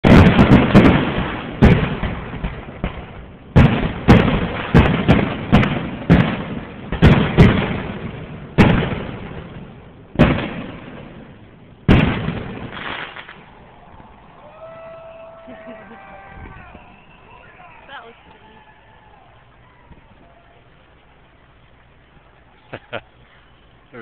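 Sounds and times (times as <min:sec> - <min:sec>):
fireworks bursts with echo: 0:00.0 - 0:23.8.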